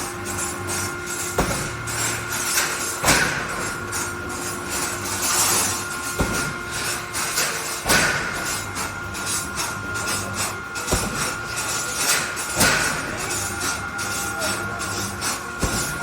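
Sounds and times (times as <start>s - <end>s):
sharp metallic clanks: 0.0s - 16.0s
welding machine humming: 0.0s - 16.0s.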